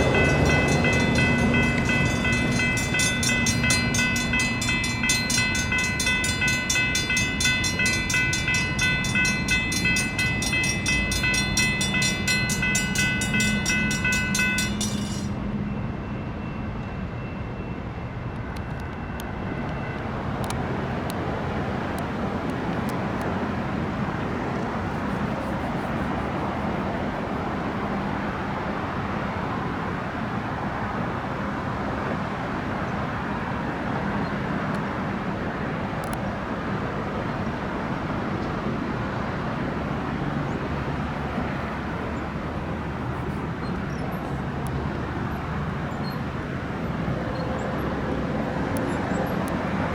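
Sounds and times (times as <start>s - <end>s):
railroad crossing bells ringing: 0.0s - 35.4s, 38.6s - 49.9s
train rumble: 0.0s - 49.9s.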